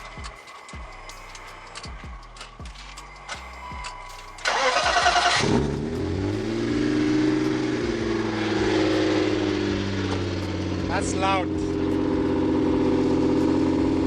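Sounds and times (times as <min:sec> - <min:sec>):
car engine idling: 0:00.0 - 0:14.0
starter motor cranking: 0:00.0 - 0:14.0.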